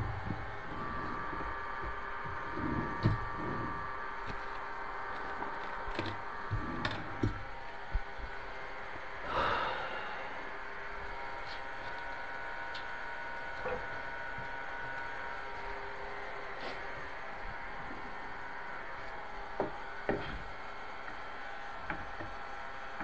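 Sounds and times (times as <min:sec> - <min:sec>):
steady faint hum: 0:00.0 - 0:23.0.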